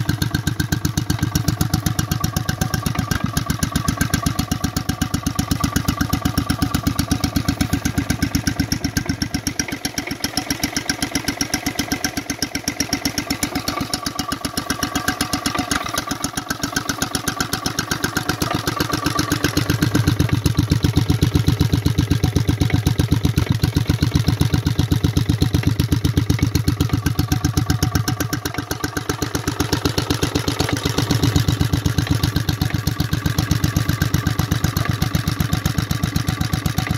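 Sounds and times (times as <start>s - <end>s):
stationary engine running: 0.0s - 36.9s.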